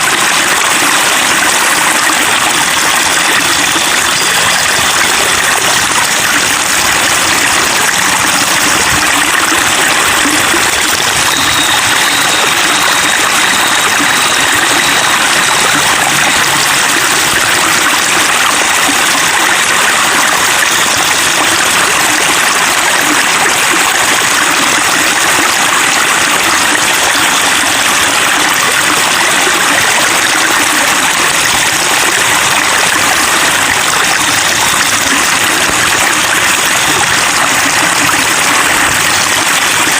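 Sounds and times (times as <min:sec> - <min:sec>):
water babbling over stones: 0:00.0 - 0:39.9.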